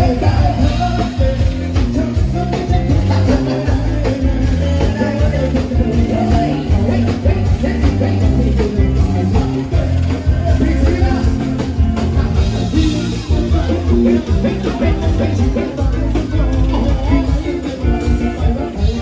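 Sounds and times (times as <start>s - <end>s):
band music with heavy bass: 0.0s - 19.0s.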